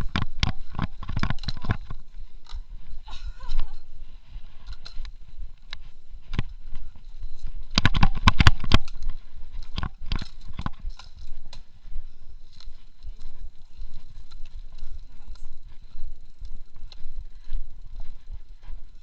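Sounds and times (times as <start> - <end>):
bike knocking and clattering: 0.0 - 3.9, 4.5 - 19.0.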